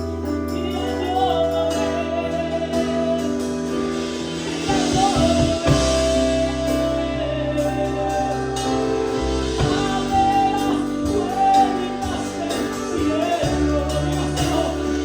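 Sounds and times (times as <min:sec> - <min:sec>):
keyboard chords: 0:00.0 - 0:15.0
worship singing over band: 0:00.6 - 0:15.0.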